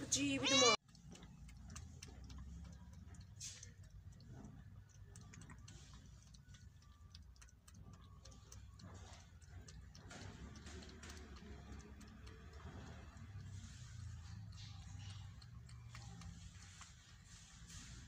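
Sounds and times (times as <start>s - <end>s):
cat lapping and chewing: 0.4s - 18.0s.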